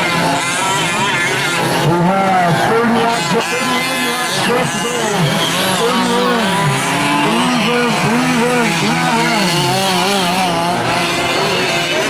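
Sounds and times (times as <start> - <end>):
rc truck engines revving: 0.0 - 12.0.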